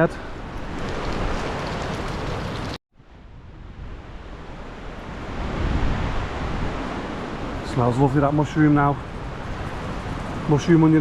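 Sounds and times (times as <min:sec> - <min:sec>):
storm wind through pine trees: 0:00.0 - 0:11.0
wind buffeting microphone: 0:00.0 - 0:11.0.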